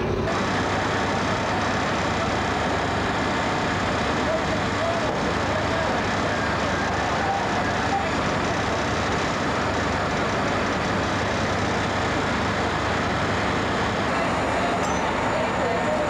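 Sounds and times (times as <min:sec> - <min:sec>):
fire truck engines running: 0:00.0 - 0:16.0.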